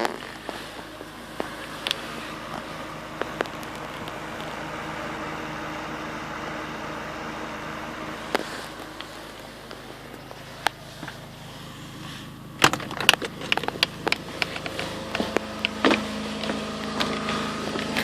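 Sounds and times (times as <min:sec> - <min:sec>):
generator engine running: 0:00.0 - 0:18.0.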